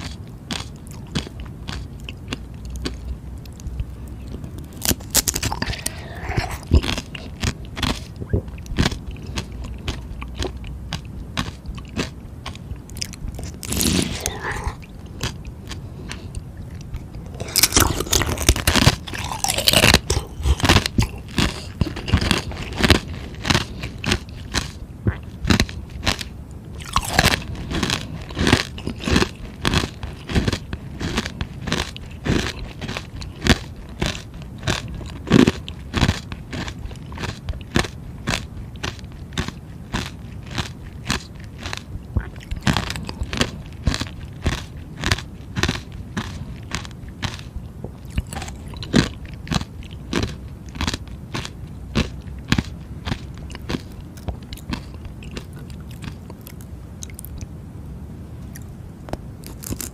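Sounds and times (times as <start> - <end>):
ice balls crunching in mouth: 0.0 - 57.5, 59.4 - 59.9.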